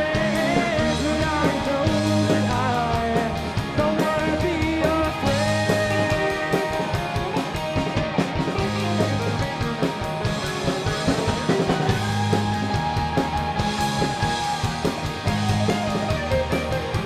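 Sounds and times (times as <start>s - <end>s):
bass guitar: 0.0s - 17.0s
drum kit steady beat: 0.0s - 17.0s
electric guitars: 0.0s - 17.0s.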